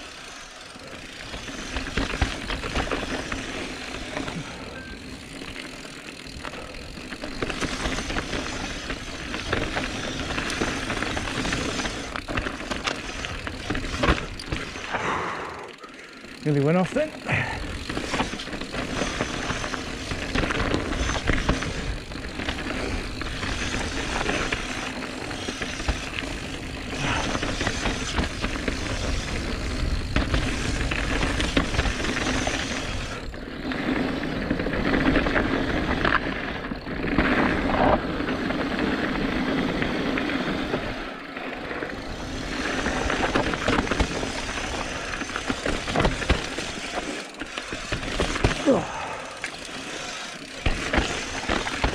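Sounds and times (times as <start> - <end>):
bike rattling: 0.0 - 51.9
bike tyres rumbling on dirt: 0.0 - 51.9.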